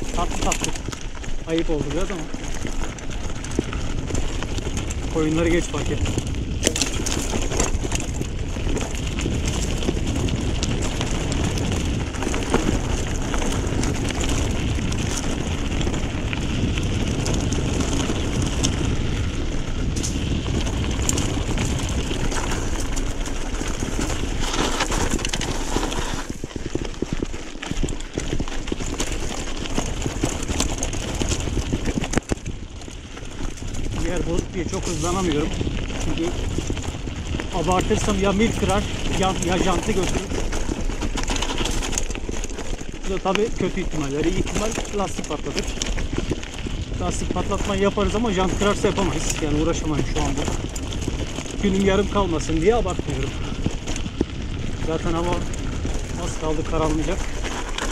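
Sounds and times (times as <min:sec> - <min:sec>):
bike clicking and rattling: 0:00.0 - 0:57.9
bike tyres on loose dirt: 0:00.0 - 0:57.9.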